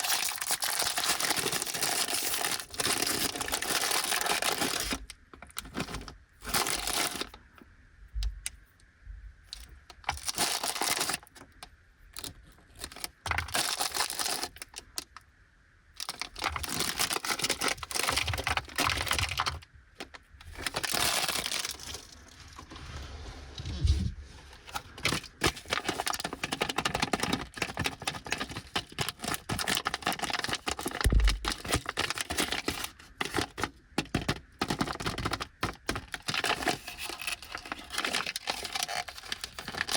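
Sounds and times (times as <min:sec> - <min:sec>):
plastic wrappers crinkling: 0:00.0 - 0:07.4, 0:09.6 - 0:11.5, 0:12.2 - 0:15.1, 0:16.0 - 0:22.6, 0:24.6 - 0:39.9.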